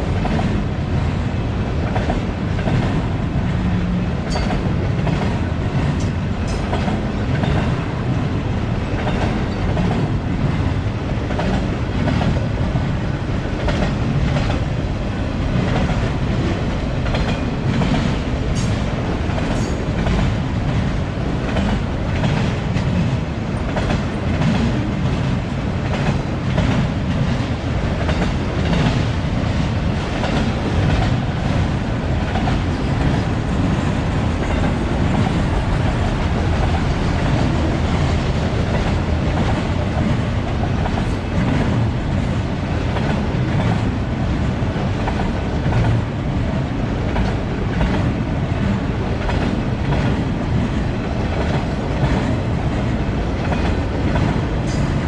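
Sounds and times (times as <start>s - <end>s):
freight train rumble: 0.0s - 55.0s.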